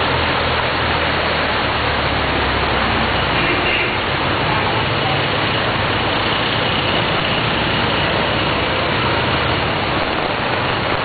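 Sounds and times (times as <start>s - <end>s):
flowing water hiss: 0.0s - 11.0s
rain: 0.0s - 11.0s
vehicle engines running: 0.0s - 11.0s.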